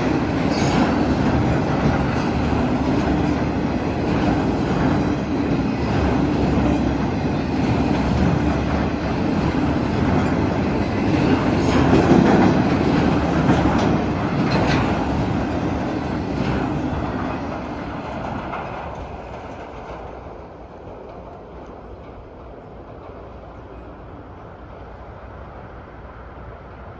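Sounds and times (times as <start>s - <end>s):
wheels clicking over rail joints: 0.0s - 24.0s
freight train cars rolling past: 0.0s - 26.9s.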